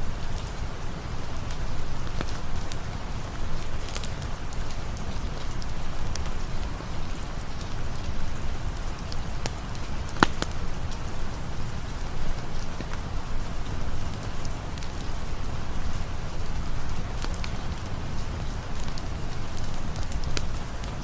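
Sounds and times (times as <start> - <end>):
steady rain: 0.0 - 21.0
sharp pops and ticks: 1.4 - 8.3, 8.9 - 13.0, 14.1 - 21.0.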